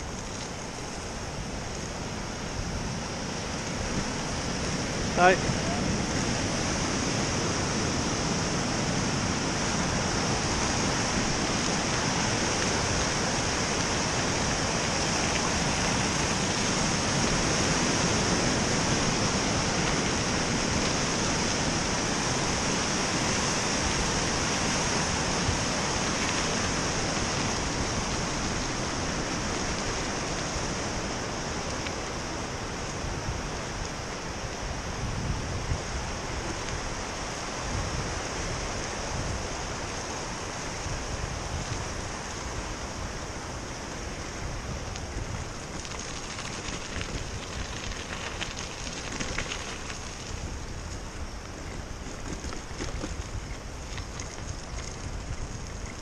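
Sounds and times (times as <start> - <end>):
whitewater river roaring: 0.8 - 49.0.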